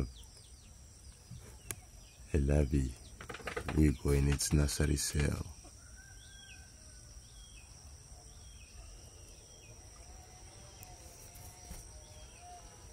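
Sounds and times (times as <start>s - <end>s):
small bird chirping: 0.0s - 12.9s.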